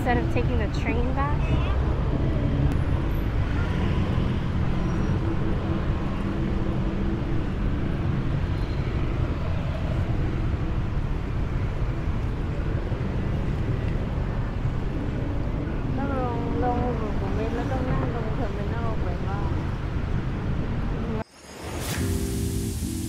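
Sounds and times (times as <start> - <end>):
vehicle engine humming: 0.0 - 21.2
street traffic rumble: 0.0 - 23.0.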